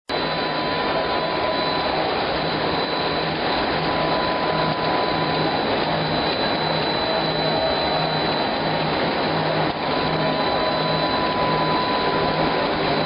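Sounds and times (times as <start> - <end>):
production line machinery running: 0.1 - 13.0
thin steady whining tones: 0.1 - 13.0.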